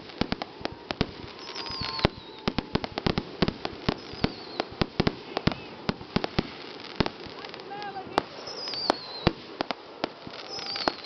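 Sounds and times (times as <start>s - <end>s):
falling firework whistles: 0.0s - 11.0s
fireworks bangs and crackles: 0.0s - 11.0s.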